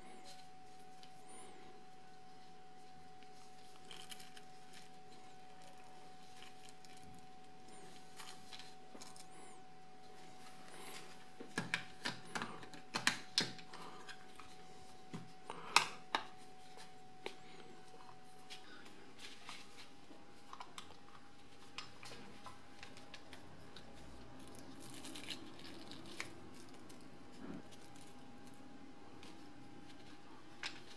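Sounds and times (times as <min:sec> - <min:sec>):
faint steady high hum: 0:00.0 - 0:30.9.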